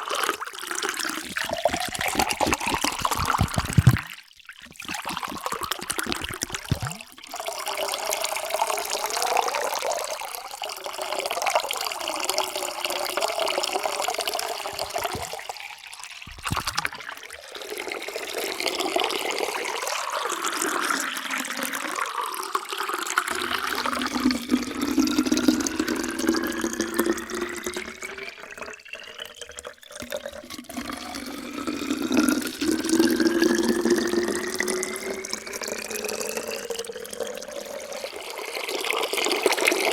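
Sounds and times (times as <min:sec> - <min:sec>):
water pouring into a container: 0:00.0 - 0:39.9.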